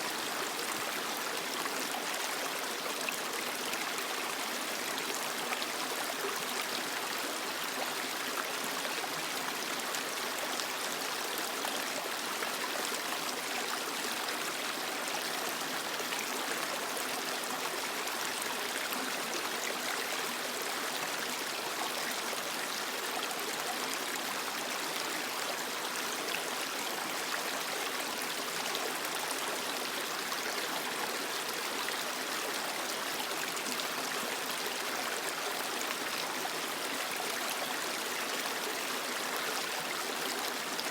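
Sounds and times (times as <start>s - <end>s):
creek water flowing over rocks: 0.0s - 40.9s.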